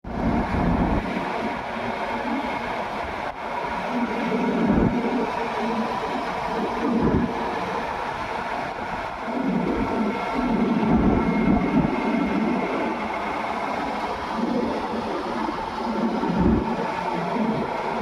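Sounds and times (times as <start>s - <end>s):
excavator diesel engine working: 0.1s - 18.0s.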